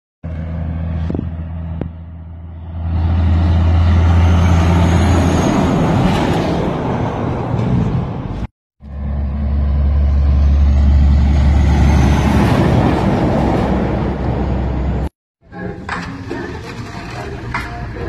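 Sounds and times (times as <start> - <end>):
diesel truck driving past: 0.2 - 15.1.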